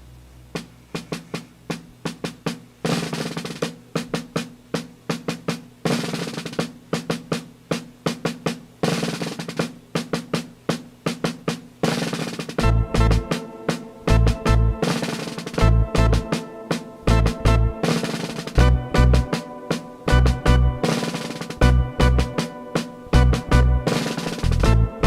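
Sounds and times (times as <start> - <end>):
snare and drum music: 0.4 - 25.0.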